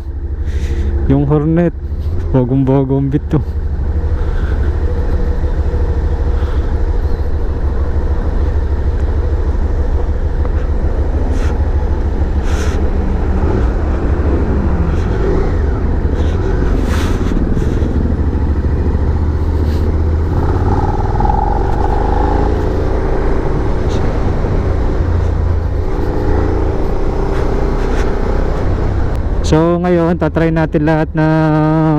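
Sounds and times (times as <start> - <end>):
motorcycle engine running: 0.0 - 29.3.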